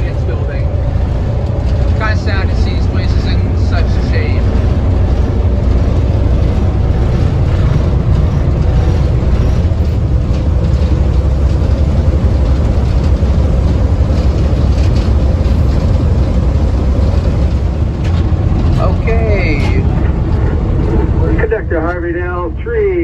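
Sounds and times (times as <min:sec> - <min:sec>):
railcar rumbling on track: 0:00.0 - 0:23.0.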